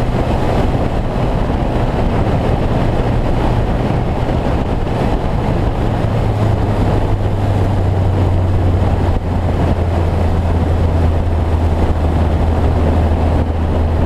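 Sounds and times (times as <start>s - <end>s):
car engine droning: 0.0s - 14.0s
road noise: 0.0s - 14.0s
wind noise: 0.0s - 14.0s.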